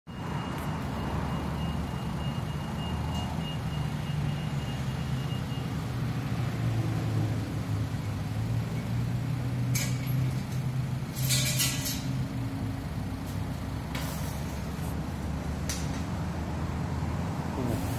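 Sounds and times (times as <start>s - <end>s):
vehicle engine humming: 0.1s - 17.9s.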